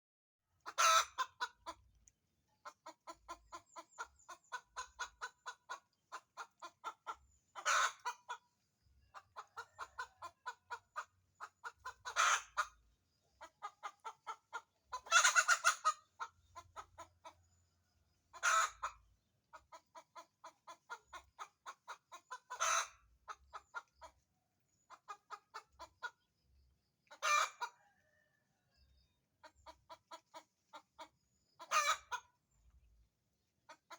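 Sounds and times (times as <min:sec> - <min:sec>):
hen clucking: 0:00.5 - 0:01.9, 0:02.5 - 0:32.8, 0:33.6 - 0:33.9.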